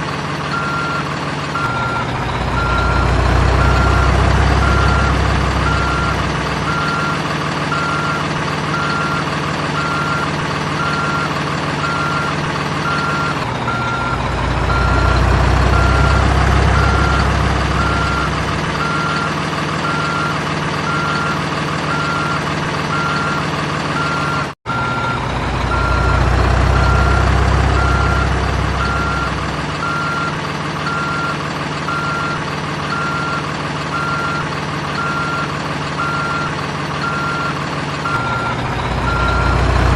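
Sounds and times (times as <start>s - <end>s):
reversing beep: 0.5s - 23.4s, 24.0s - 39.9s.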